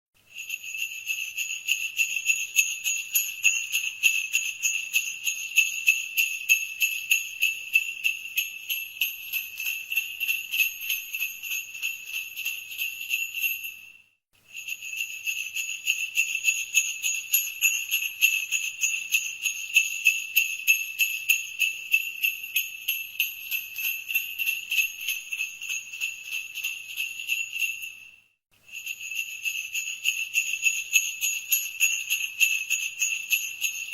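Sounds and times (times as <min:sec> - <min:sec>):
sleigh bells jingling: 0:00.2 - 0:33.9.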